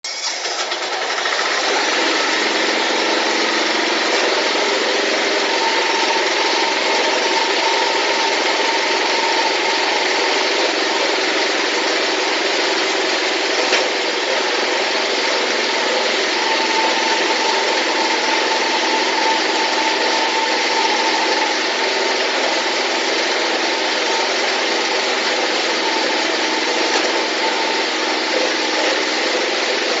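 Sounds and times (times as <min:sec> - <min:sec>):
concrete mixer engine running: 0:00.0 - 0:30.0.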